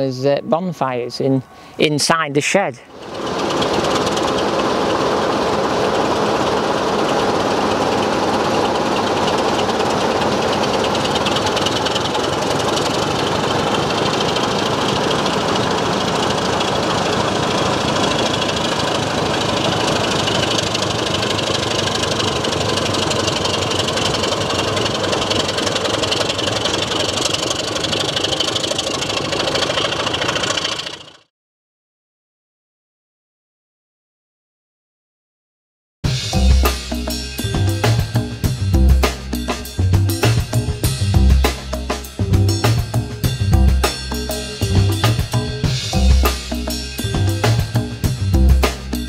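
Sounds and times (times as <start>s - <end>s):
diesel locomotive engines running: 0.8s - 1.8s, 2.8s - 31.3s, 36.2s - 49.0s.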